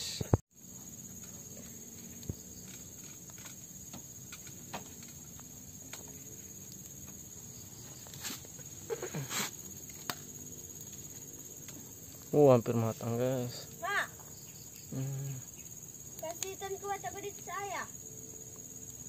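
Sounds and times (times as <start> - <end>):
insect drone: 0.0 - 19.0
fire crackling: 0.9 - 19.0.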